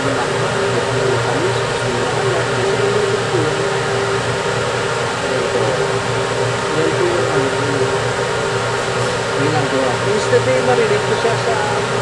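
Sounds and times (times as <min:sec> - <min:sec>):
constant hum: 0:00.0 - 0:12.0
fan whirring: 0:00.0 - 0:12.0.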